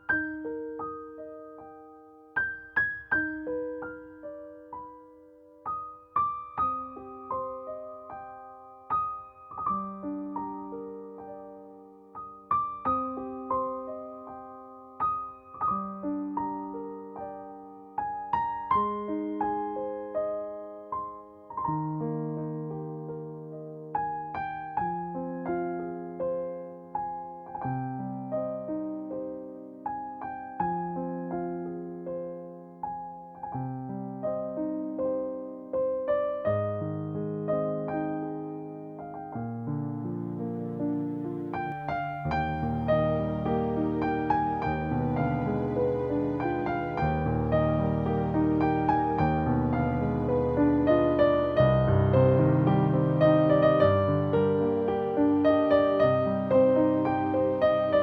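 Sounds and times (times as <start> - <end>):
slow solo piano music: 0.0 - 58.0.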